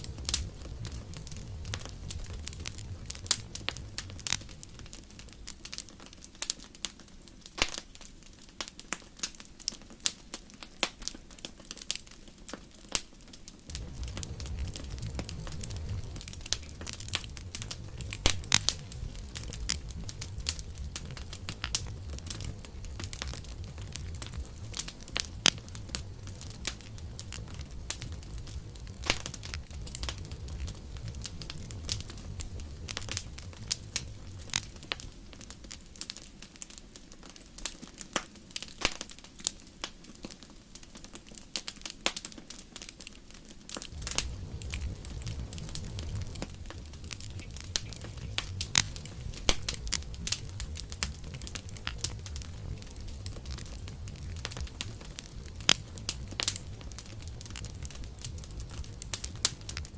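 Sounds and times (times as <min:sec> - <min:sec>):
campfire crackling and popping: 0:00.0 - 0:59.9
low rumble of flame: 0:00.0 - 0:59.9.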